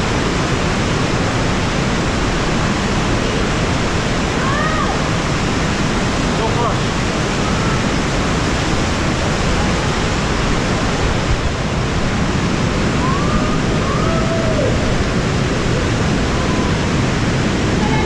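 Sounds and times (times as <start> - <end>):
waterfall and creek rushing: 0.0 - 18.0.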